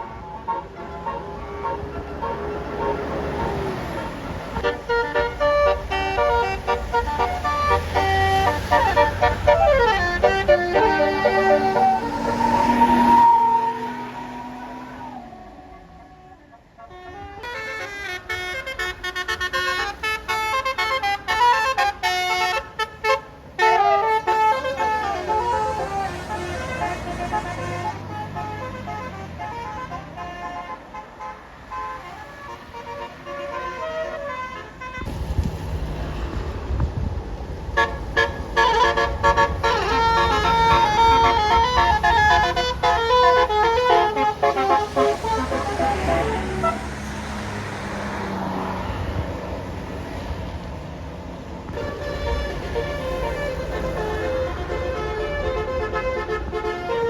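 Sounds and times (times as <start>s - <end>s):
multi-tone musical bus horn: 0.0s - 35.4s, 37.6s - 49.3s, 51.7s - 57.0s
bus engine rumble: 0.0s - 57.0s.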